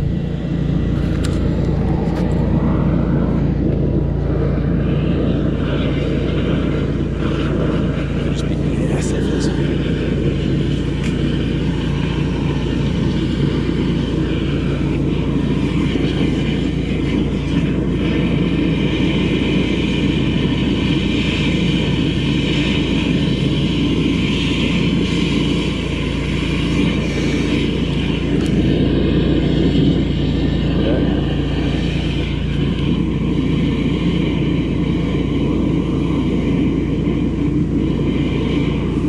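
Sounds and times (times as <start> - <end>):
engine and pump running: 0.0 - 39.0.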